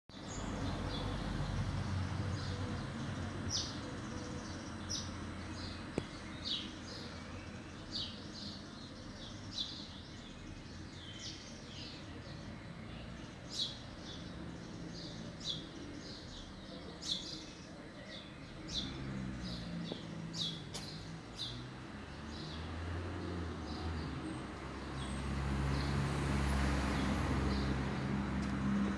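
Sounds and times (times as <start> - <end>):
small birds chirping: 0.1 - 28.9.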